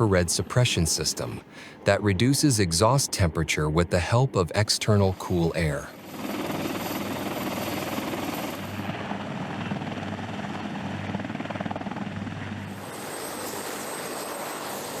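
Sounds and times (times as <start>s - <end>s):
helicopter rotor blades chopping: 0.0s - 15.0s
turbine engine noise: 0.0s - 15.0s.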